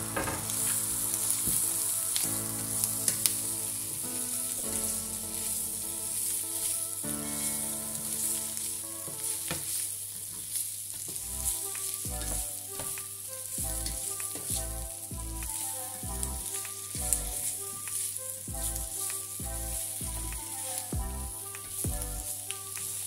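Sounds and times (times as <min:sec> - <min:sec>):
background music with beat: 0:00.0 - 0:10.1, 0:11.2 - 0:23.0
vegetables sizzling in oil: 0:00.0 - 0:23.0
spatula stirring in pan: 0:00.3 - 0:23.0.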